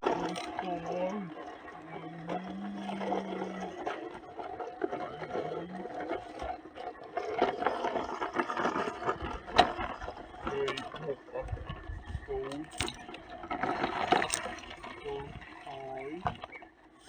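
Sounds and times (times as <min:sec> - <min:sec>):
small electric motor whirring: 0:00.0 - 0:17.0.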